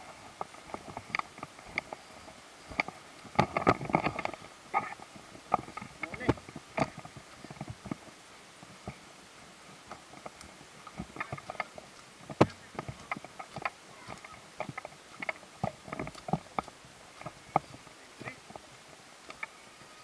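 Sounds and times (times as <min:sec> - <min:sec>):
footsteps crunching leaves and twigs: 0:00.0 - 0:20.0.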